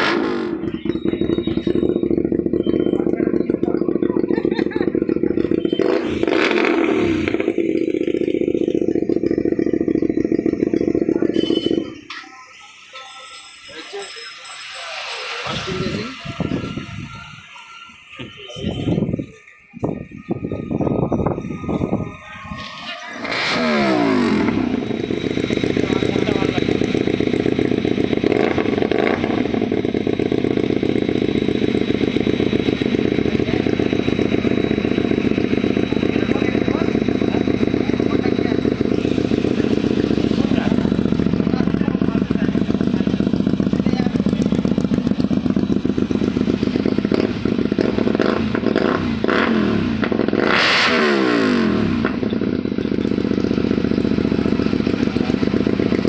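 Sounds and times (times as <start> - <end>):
motorcycle engine idling: 0.2 - 56.0.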